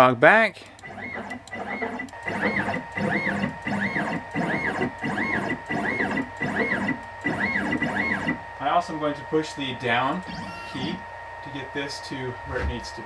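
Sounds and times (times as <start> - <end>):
stepper motor whine: 0.8 - 13.0.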